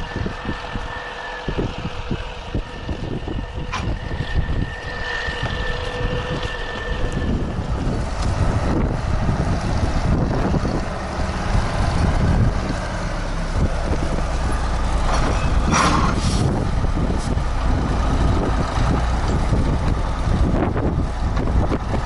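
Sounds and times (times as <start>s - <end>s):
tractor diesel engine running: 0.0s - 22.0s
wind on microphone: 0.0s - 22.0s.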